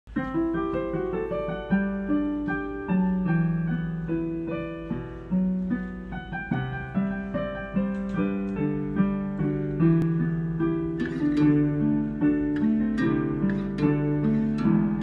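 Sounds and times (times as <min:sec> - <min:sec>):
slow piano melody: 0:00.1 - 0:15.0.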